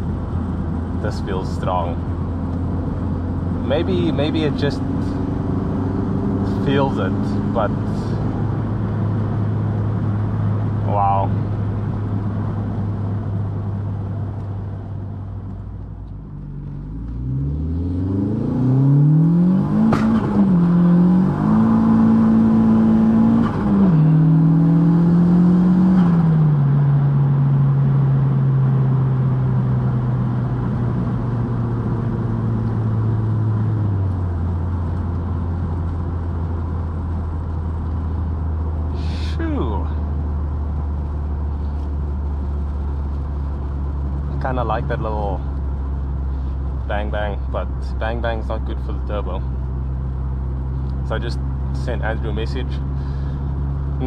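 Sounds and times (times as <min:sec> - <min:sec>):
car engine revving at full throttle: 0:00.0 - 0:14.4, 0:16.9 - 0:54.0.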